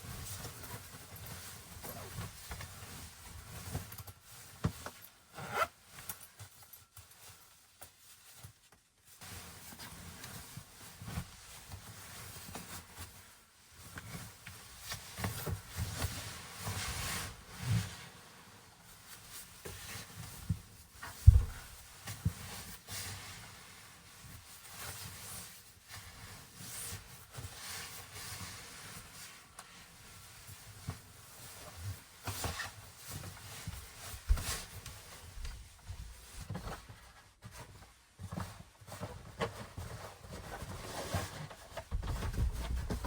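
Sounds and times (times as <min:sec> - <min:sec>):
fabric and gear rustling: 0:00.0 - 0:43.0.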